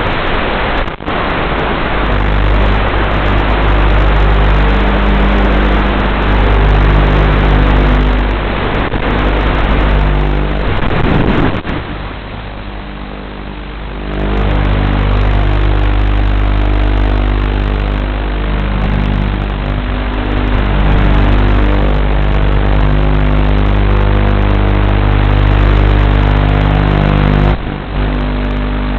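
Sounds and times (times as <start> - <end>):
drone motors and propellers: 0.0 - 28.9.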